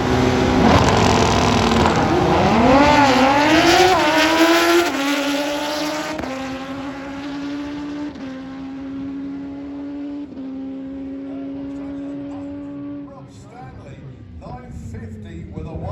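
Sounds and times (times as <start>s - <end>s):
motorcycle engine at full throttle: 0.0s - 15.9s.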